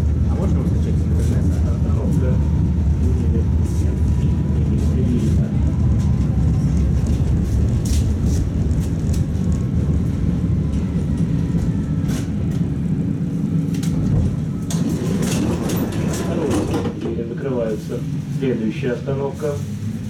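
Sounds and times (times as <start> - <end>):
tram wheels rumbling: 0.0 - 20.0.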